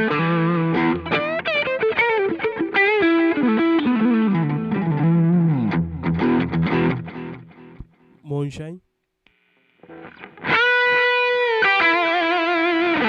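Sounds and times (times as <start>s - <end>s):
electric guitar melody: 0.0s - 8.1s, 9.8s - 13.0s
electric guitar chords: 0.0s - 8.2s, 9.3s - 13.0s.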